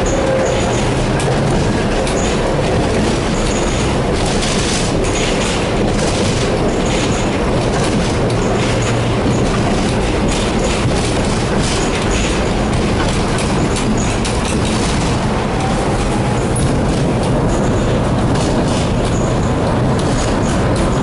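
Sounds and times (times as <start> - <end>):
tram wheels rumbling on track: 0.0 - 21.0
wheels clicking over rail joints: 0.0 - 21.0.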